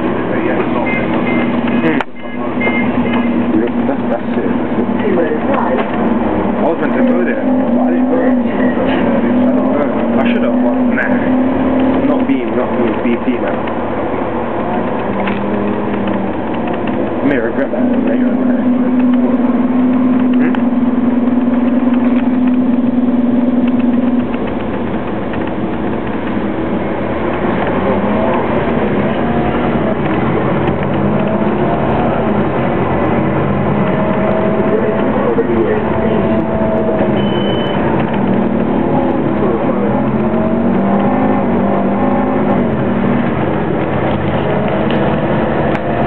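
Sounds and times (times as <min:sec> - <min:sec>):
bus engine droning: 0:00.0 - 0:46.0
road noise: 0:00.0 - 0:46.0.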